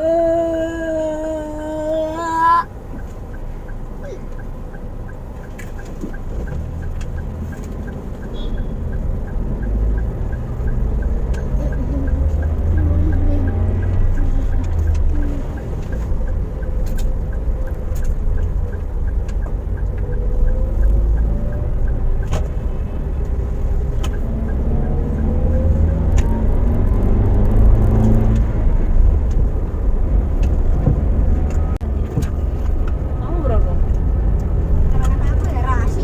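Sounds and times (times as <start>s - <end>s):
light regular ticking: 0.0s - 30.8s, 31.4s - 36.0s
car road and engine rumble: 0.0s - 36.0s.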